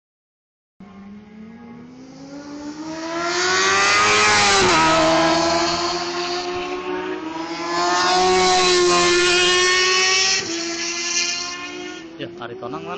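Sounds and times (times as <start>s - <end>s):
another motorcycle engine: 0.8s - 12.9s
motorcycle passing at speed: 0.8s - 12.9s.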